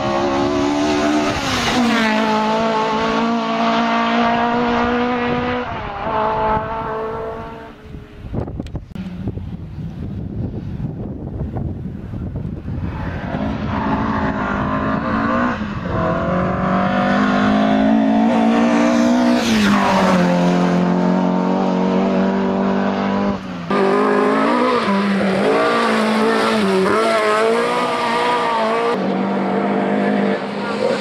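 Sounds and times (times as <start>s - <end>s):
rally car engines revving: 0.0s - 10.0s, 12.5s - 31.0s.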